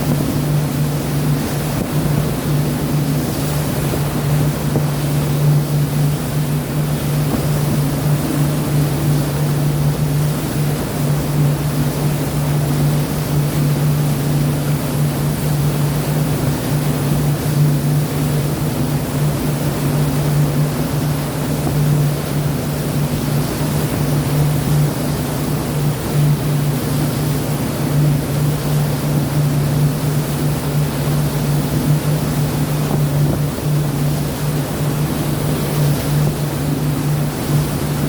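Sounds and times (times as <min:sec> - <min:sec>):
low engine drone: 0:00.0 - 0:38.0
sea water rushing: 0:00.0 - 0:38.0
wind: 0:00.0 - 0:38.0.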